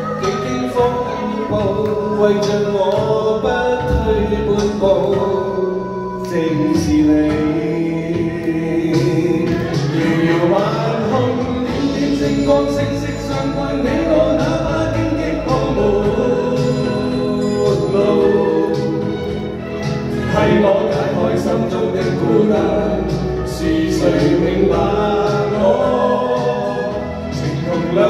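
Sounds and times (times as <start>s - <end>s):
man singing into a microphone: 0.0s - 19.4s, 20.1s - 28.0s
backing music with a beat: 0.0s - 28.0s.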